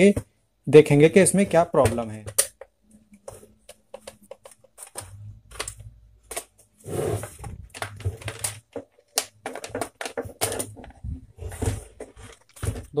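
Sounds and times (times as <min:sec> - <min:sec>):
plastic parts clicking and knocking: 0:01.1 - 0:06.7, 0:07.3 - 0:13.0.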